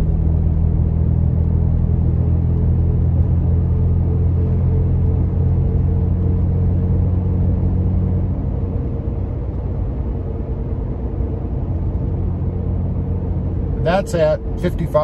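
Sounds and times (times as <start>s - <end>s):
tire and road noise: 0.0s - 15.0s
tire hum: 0.0s - 15.0s.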